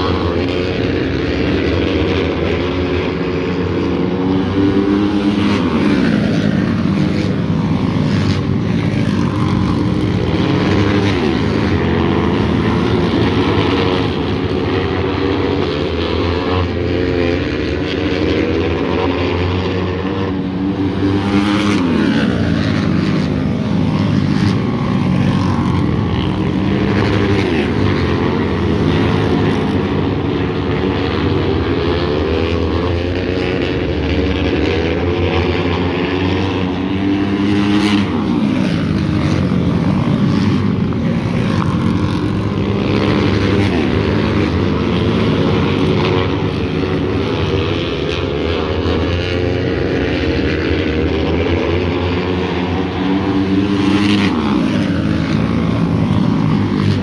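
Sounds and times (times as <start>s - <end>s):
racing motorcycle engines: 0.0s - 57.0s.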